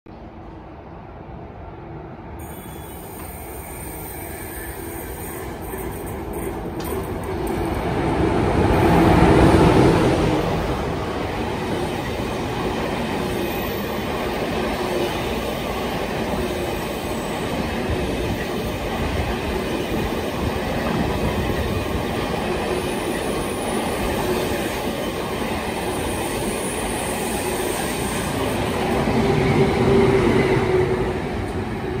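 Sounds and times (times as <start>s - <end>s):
train wheels rumbling on rail: 2.4s - 32.0s.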